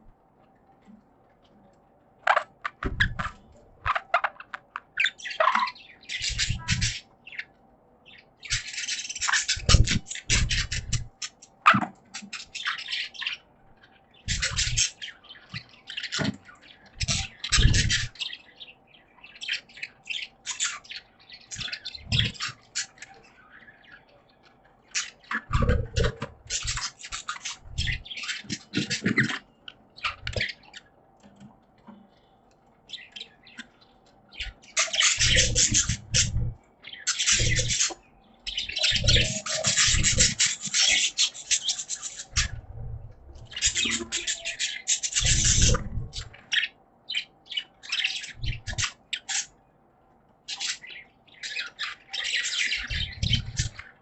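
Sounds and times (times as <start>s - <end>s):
budgerigars chattering and chirping: 2.3s - 31.0s, 32.1s - 49.6s, 50.5s - 54.0s.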